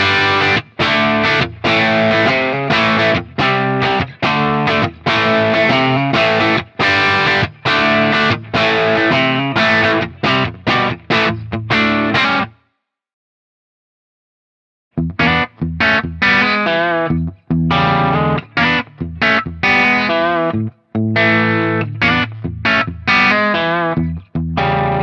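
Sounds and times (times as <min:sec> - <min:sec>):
distorted electric guitar riffs: 0:00.0 - 0:12.6, 0:15.0 - 0:25.0.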